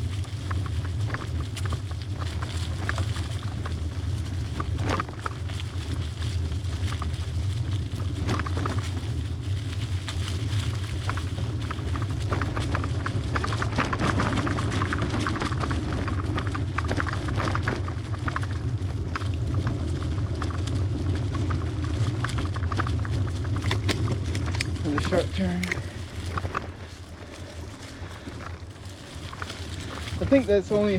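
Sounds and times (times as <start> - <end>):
bicycle frame rattling: 0.0 - 30.9
wind rumbling on microphone: 0.0 - 30.9.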